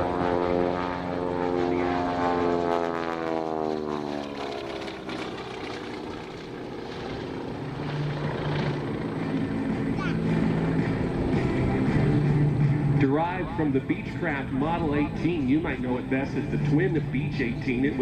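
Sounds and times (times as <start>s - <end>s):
aircraft engines taxiing: 0.0s - 18.0s.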